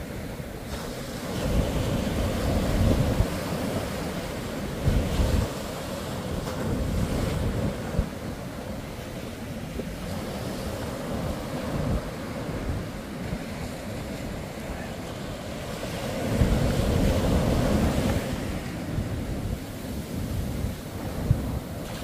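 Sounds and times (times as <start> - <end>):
surf breaking on a beach: 0.0 - 22.0
wind buffeting microphone: 0.0 - 22.0.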